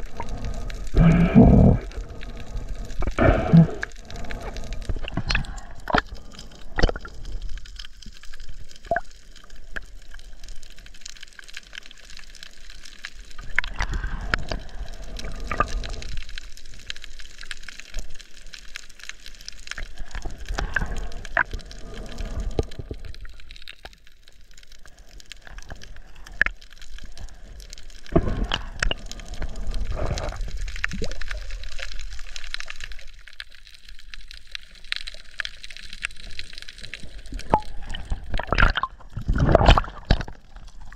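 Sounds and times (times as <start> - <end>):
underwater rushing water: 0.0 - 24.0, 24.8 - 40.9.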